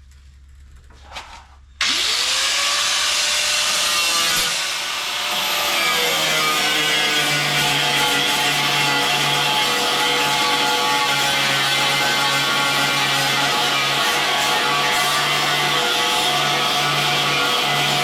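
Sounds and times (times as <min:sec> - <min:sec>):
power tool rasping whine: 0:01.8 - 0:18.0.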